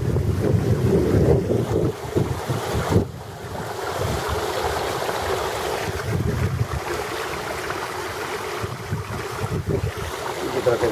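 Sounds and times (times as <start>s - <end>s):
wind on microphone: 0.0s - 7.7s, 8.4s - 10.9s
water rushing and splashing: 0.0s - 10.9s.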